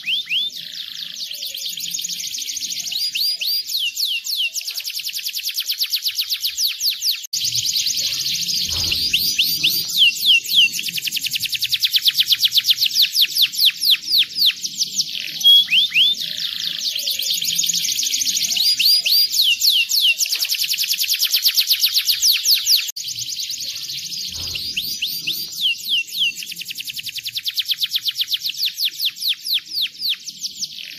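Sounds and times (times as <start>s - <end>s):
canary singing fast trills: 0.0s - 30.9s.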